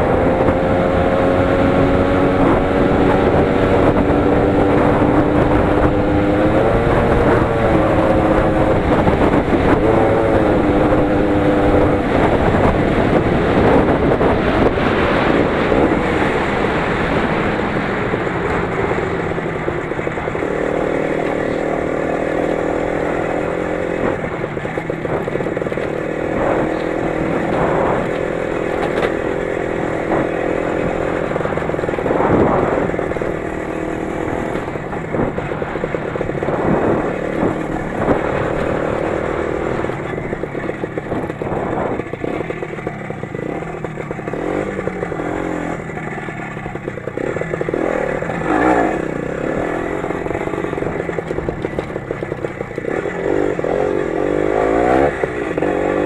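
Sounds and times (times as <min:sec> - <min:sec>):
motorcycle engine running under load: 0:00.0 - 0:56.0
rumble and buffeting noise: 0:00.0 - 0:56.0.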